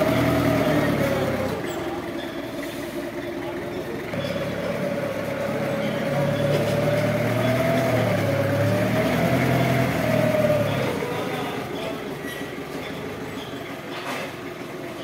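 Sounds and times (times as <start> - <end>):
forklift engine drone: 0.0 - 15.0.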